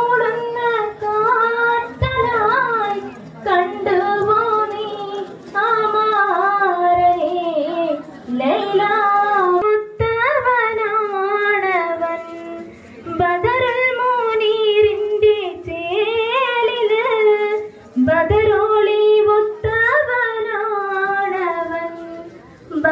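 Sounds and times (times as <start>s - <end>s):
woman singing into a microphone: 0.0s - 22.9s.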